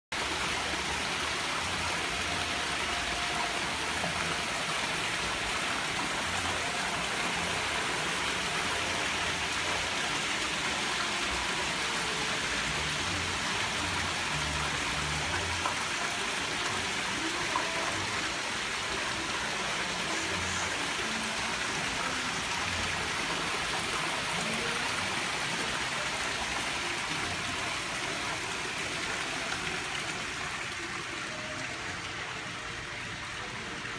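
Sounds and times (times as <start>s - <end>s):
fountain water splashing: 0.1s - 33.9s.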